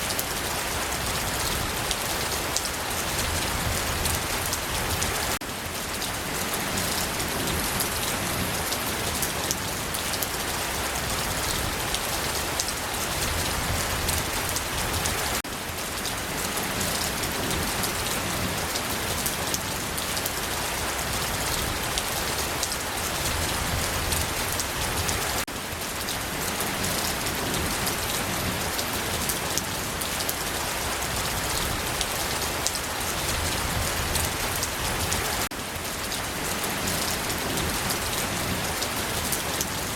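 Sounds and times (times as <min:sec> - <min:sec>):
raindrops ticking on a surface: 0:00.0 - 0:39.9
steady rain hiss: 0:00.0 - 0:39.9.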